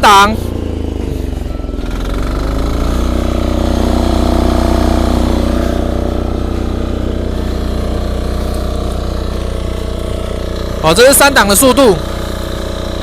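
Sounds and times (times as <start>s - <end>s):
cultivator engine running: 0.0s - 13.0s.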